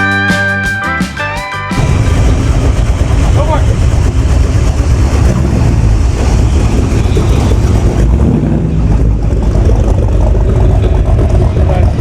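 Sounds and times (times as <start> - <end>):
car engine running loudly: 1.8 - 12.0.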